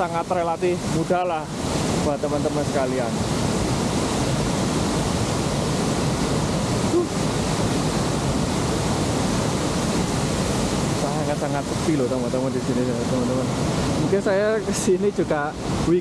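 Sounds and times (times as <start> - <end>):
waterfall and stream rushing: 0.0 - 16.0.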